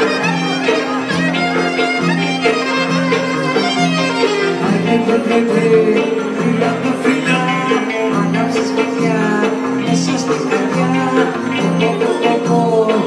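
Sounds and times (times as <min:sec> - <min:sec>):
band playing folk dance music: 0:00.0 - 0:13.0.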